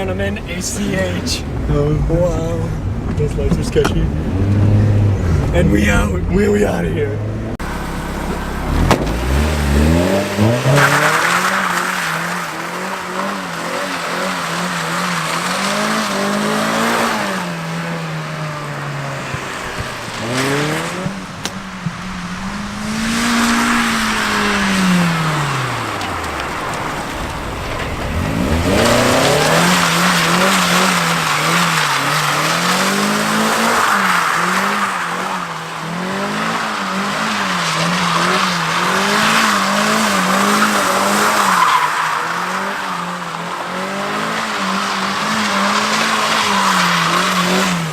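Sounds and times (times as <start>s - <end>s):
car engine revving: 0.0s - 47.9s
tyres skidding on wet road: 7.6s - 47.9s.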